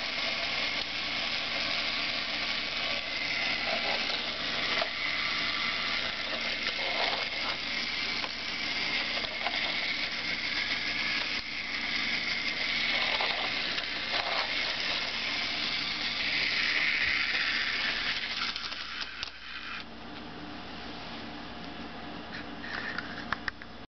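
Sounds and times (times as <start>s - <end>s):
toy train wheels rattling: 0.0s - 19.8s
toy train motor whine: 0.0s - 19.9s.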